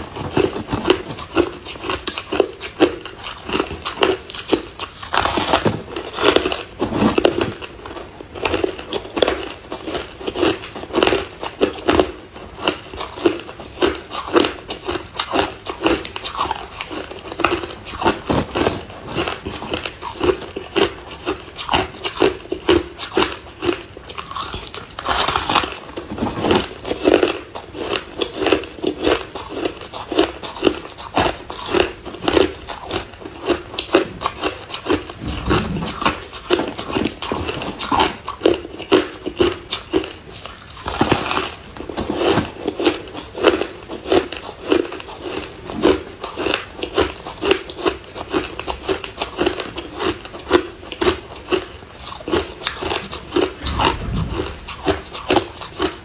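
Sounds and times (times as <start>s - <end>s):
crushed ice being chewed: 0.0s - 56.0s.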